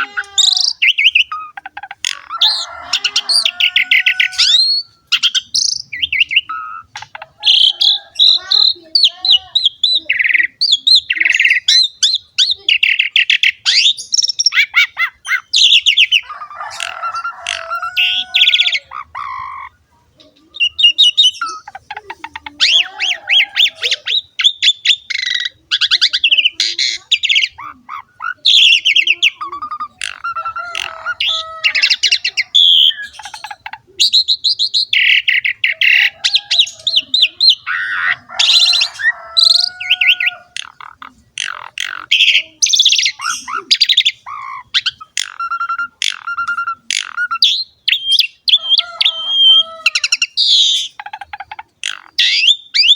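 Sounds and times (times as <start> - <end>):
starling singing: 0.0 - 52.9.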